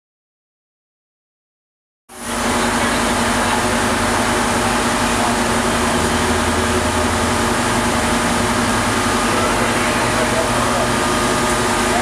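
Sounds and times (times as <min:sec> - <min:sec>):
machinery droning: 0:02.1 - 0:12.0.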